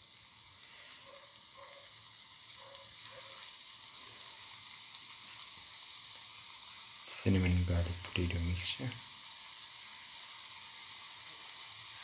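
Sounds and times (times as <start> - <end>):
fritter batter sizzling in oil: 0.0 - 12.0.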